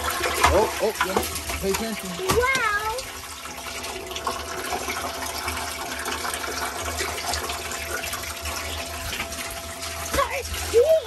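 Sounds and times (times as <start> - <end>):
water pouring into tank: 0.0 - 11.0
thin steady tone: 0.5 - 11.0.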